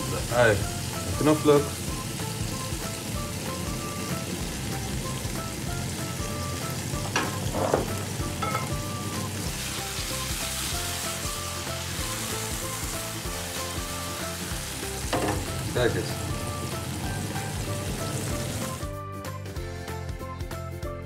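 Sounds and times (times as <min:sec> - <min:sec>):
onion and garlic sizzling in oil: 0:00.0 - 0:18.9.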